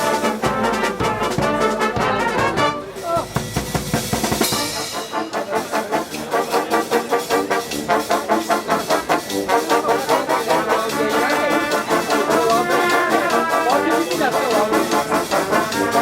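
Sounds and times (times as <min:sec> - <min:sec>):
brass orchestra playing: 0:00.0 - 0:16.0.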